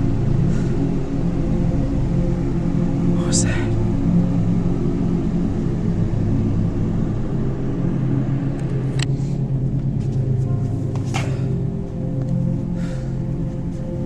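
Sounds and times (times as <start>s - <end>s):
low droning horror score: 0.0s - 14.0s.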